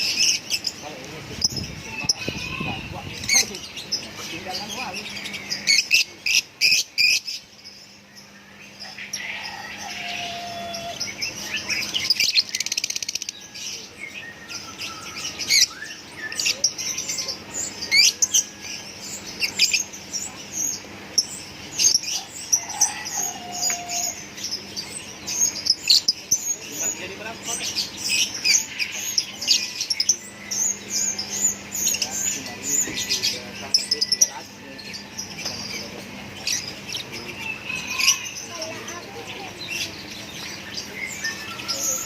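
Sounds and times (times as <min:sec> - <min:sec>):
lovebirds chirping: 0:00.0 - 0:42.0.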